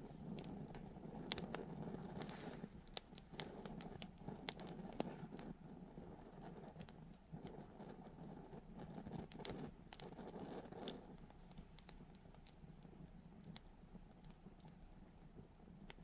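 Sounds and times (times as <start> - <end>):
campfire crackling and popping: 0.0 - 16.0
faint low steady noise: 0.0 - 16.0.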